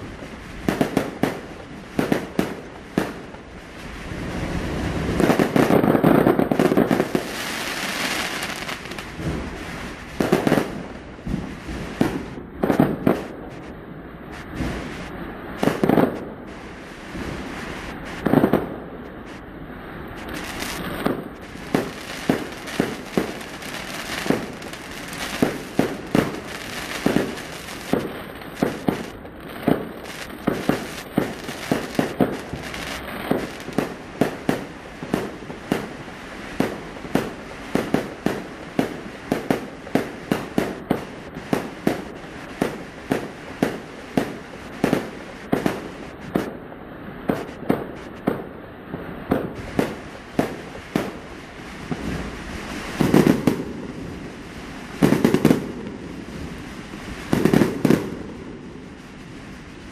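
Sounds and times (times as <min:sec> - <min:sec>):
fireworks bangs: 0:00.0 - 0:46.6, 0:47.2 - 0:59.9
fireworks crackle: 0:00.0 - 0:59.9.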